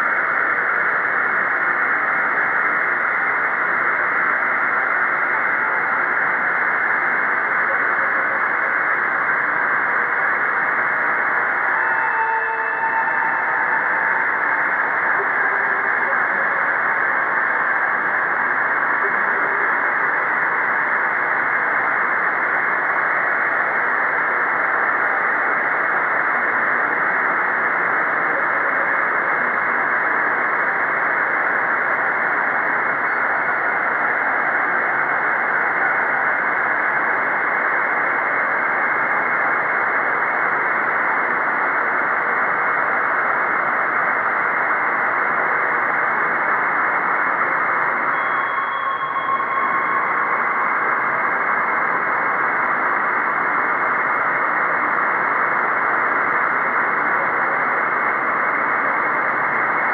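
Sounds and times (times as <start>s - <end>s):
dense hiss-like drone: 0.0s - 59.9s.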